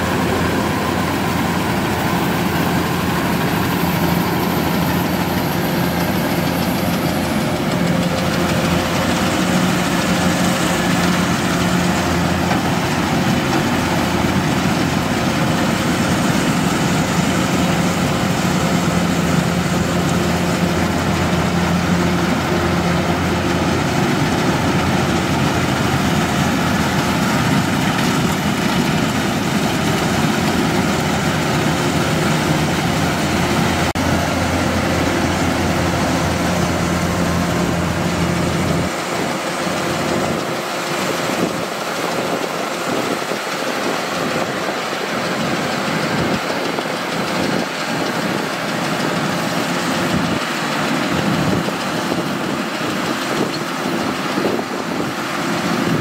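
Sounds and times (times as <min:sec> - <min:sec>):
combine harvester engine humming: 0:00.0 - 0:56.0.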